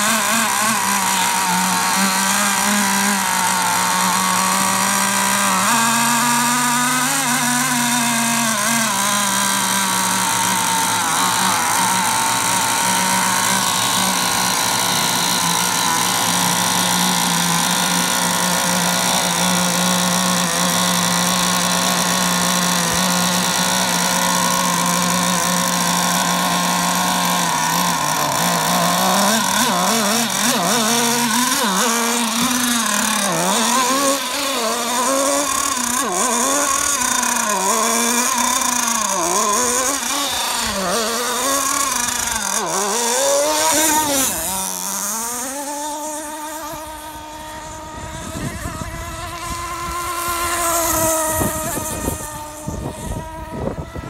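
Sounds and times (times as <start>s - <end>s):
model boat engine revving: 0.0s - 54.0s.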